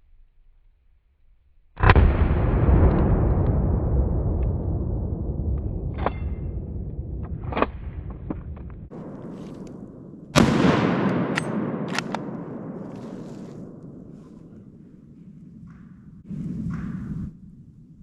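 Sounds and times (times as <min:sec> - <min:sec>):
echoing gunshots: 0:01.8 - 0:17.6.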